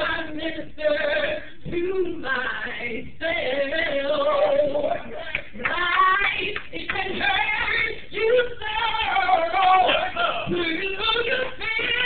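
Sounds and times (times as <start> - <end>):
woman singing into a microphone: 0.0 - 12.0.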